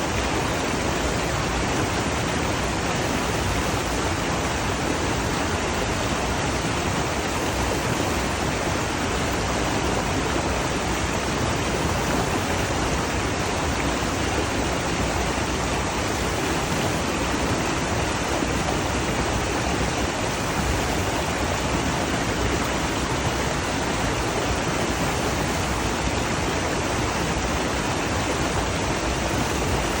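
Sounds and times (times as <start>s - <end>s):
running water rushing: 0.0s - 30.0s.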